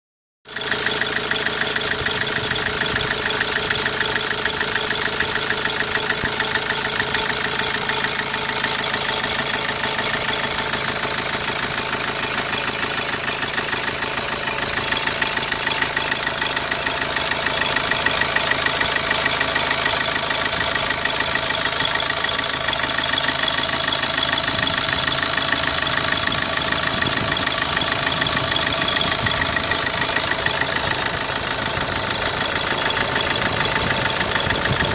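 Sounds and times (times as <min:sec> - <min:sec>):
diesel engine idling: 0:00.5 - 0:34.9.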